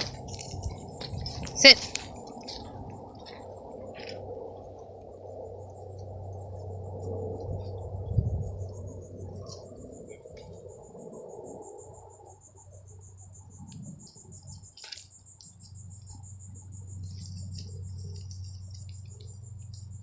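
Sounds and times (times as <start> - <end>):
insects trilling: 0.0 - 20.0
low steady hum: 0.0 - 20.0.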